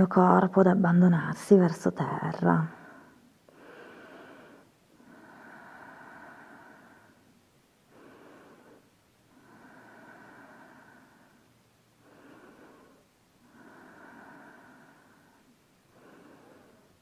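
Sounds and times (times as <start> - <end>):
woman breathing softly: 2.7 - 17.0.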